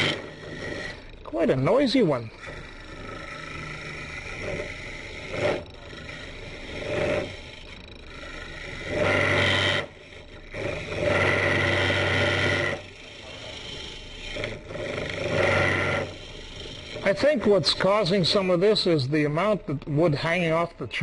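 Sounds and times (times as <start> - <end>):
lathe running: 0.0 - 20.6
lathe tool cutting wood with squeal: 0.0 - 20.6.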